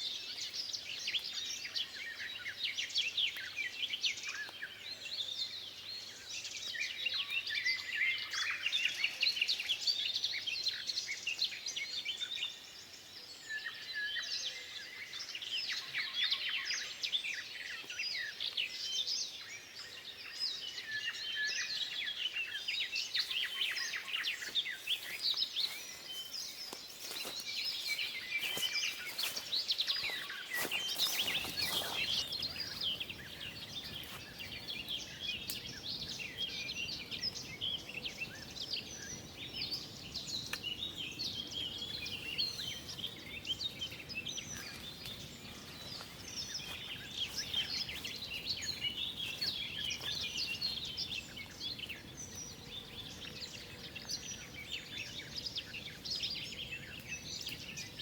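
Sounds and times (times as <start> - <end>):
songbirds chorus: 0.0 - 58.0.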